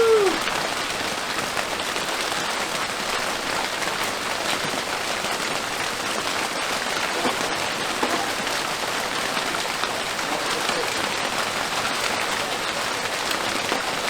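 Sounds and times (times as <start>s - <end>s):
rain falling steadily: 0.0s - 14.0s.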